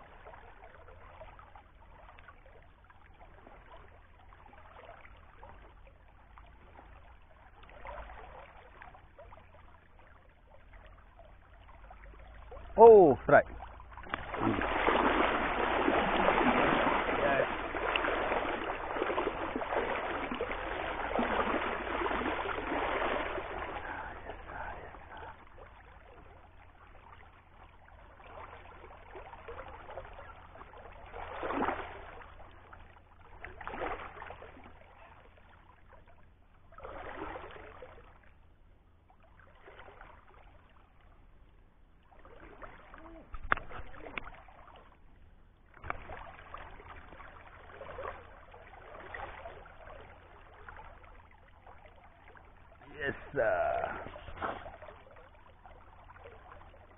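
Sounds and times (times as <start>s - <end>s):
running water: 0.0s - 56.9s
fish splashing in water: 0.1s - 38.2s, 45.7s - 56.9s.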